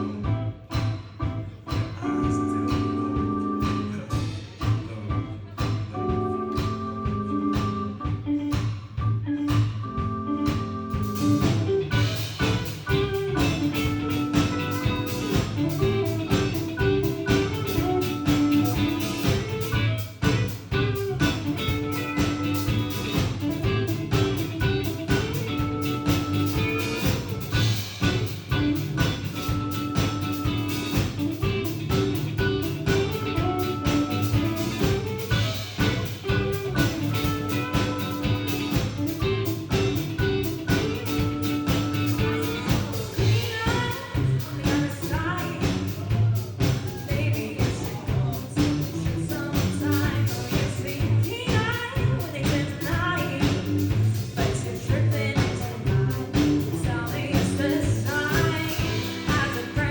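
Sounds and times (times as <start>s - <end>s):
guitar: 0.0s - 59.9s
live jazz-funk band: 0.0s - 59.9s
drum kit with cymbals: 3.6s - 6.8s, 10.4s - 59.9s.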